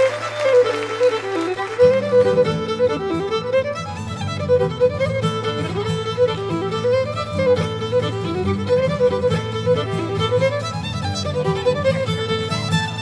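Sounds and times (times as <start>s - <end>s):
instrumental tune: 0.0s - 13.0s.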